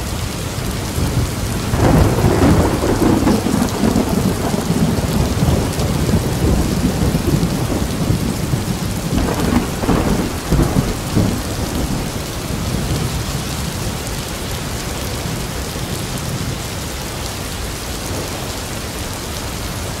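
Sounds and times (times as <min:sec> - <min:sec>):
steady rain: 0:00.0 - 0:20.0
thunder rumbling: 0:00.6 - 0:16.9.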